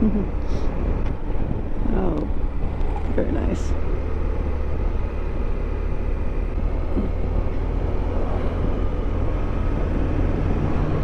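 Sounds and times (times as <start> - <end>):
low motorcycle engine drone: 0.0 - 11.0.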